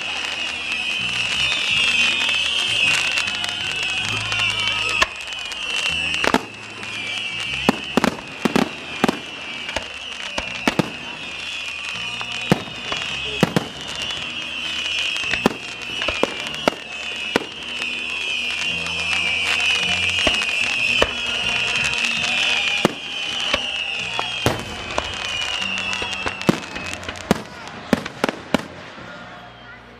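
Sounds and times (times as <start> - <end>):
fireworks bangs and pops: 0.0 - 29.2
fireworks whistling: 0.0 - 29.9
music playing: 0.0 - 29.9.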